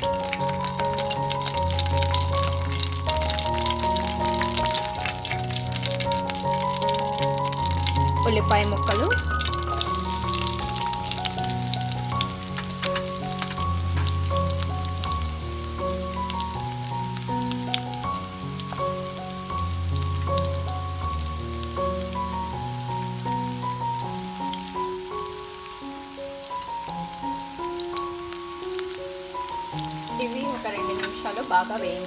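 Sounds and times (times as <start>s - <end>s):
background music: 0.0s - 32.0s
onions sizzling in hot oil: 0.0s - 32.0s.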